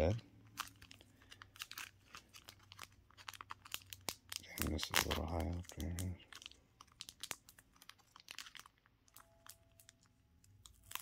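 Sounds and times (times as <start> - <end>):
clicks and crinkles of packaging: 0.0 - 11.0.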